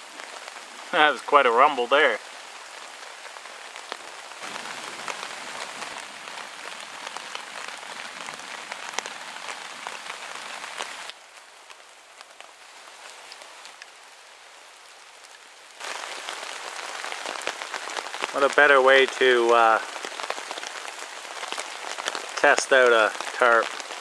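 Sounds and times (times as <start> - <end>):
heavy rain drumming on a tarp: 0.0 - 24.0
raindrops ticking: 0.0 - 24.0.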